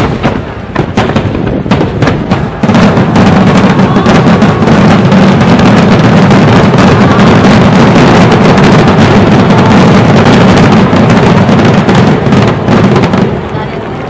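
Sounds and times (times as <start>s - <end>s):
firework bangs and pops: 0.0s - 14.0s
fireworks crackling barrage: 0.0s - 14.0s.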